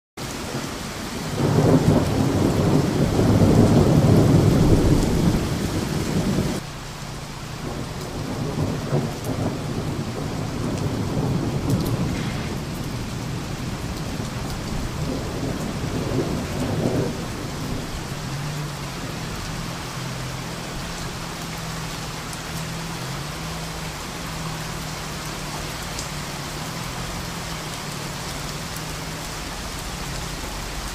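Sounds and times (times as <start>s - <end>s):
rain on ground and leaves: 0.2s - 30.9s
thunder rumbling: 0.5s - 6.6s, 7.4s - 30.9s.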